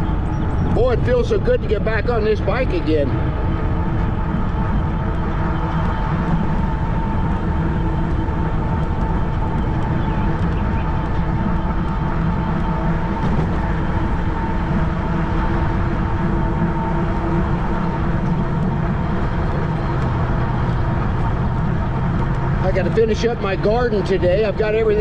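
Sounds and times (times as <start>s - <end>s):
bike tyre hum: 0.0s - 25.0s
wind over microphone: 0.0s - 25.0s.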